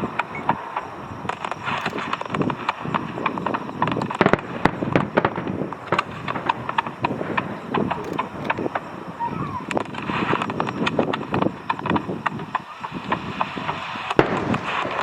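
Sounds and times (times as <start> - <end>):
fireworks crackling: 0.0 - 15.0
loud fireworks bangs: 0.0 - 15.0.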